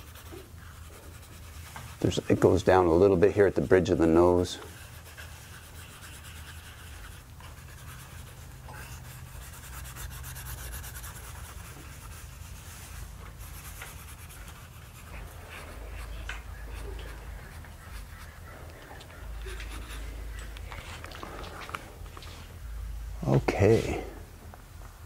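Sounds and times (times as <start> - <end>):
pencil scratching on paper: 0.0 - 21.0
low steady hum: 0.0 - 25.0.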